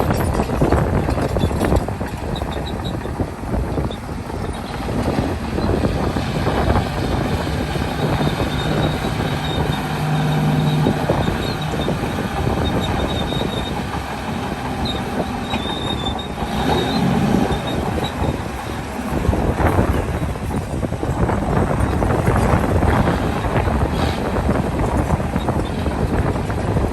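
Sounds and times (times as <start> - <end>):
diesel engine under load: 0.0 - 26.9
steel tracks clanking and squealing: 0.0 - 26.9.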